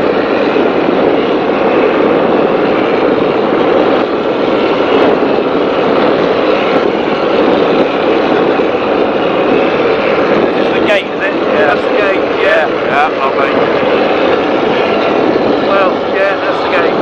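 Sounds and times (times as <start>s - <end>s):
powerboat engine roaring: 0.0s - 17.0s
wind rushing: 0.0s - 17.0s.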